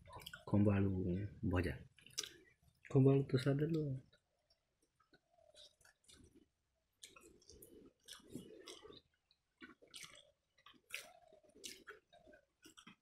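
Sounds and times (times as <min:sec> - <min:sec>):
chewing and wet smacks: 0:00.0 - 0:00.5, 0:01.9 - 0:03.0, 0:04.0 - 0:13.0.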